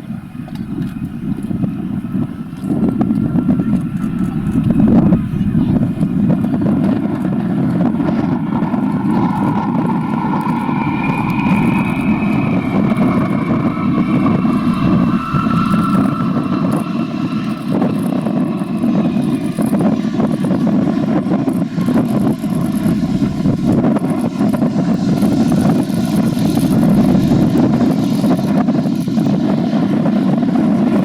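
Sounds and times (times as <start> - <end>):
jet engines whining on landing: 0.0 - 31.0.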